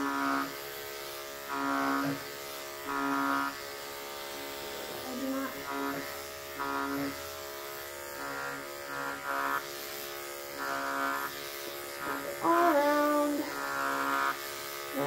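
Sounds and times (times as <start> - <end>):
electric clipper buzzing: 0.0 - 15.0.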